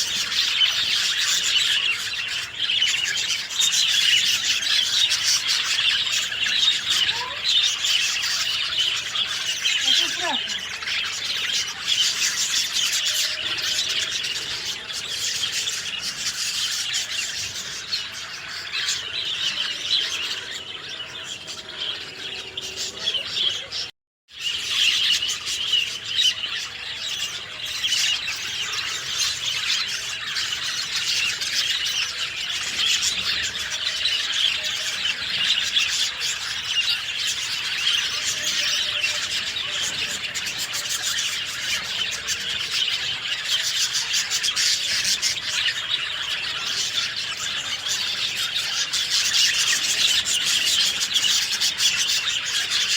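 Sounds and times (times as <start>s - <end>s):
small birds chirping and singing: 0.0s - 52.9s.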